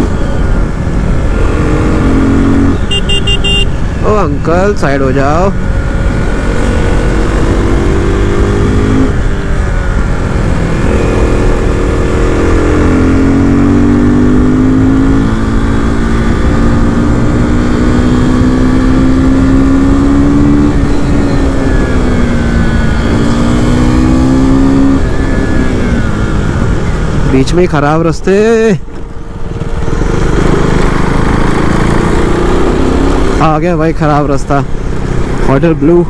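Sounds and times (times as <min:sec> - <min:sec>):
motorcycle engine revving: 0:00.0 - 0:27.4, 0:28.8 - 0:36.0
wind and road noise: 0:00.0 - 0:36.0.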